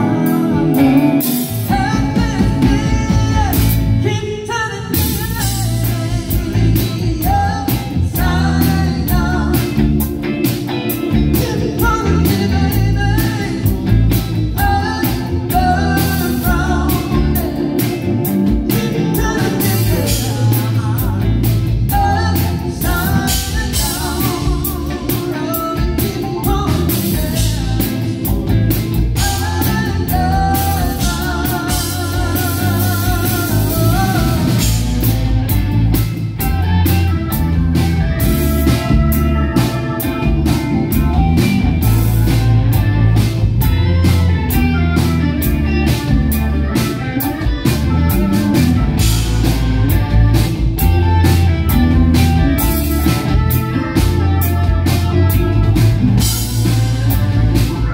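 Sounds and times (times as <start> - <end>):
live rock band playing: 0.0 - 57.9
man singing lead: 0.0 - 57.9.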